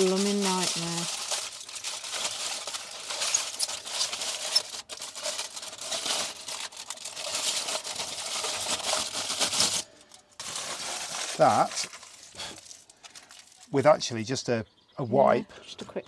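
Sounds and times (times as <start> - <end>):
aluminium foil crinkling: 0.0 - 13.8.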